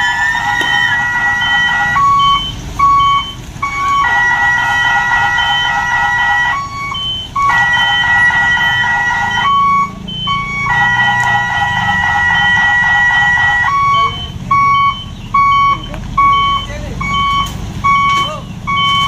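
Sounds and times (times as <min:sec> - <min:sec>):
reversing alarm tune: 0:00.0 - 0:19.0
short beeps: 0:00.0 - 0:19.0
truck engine rumble: 0:00.0 - 0:19.0.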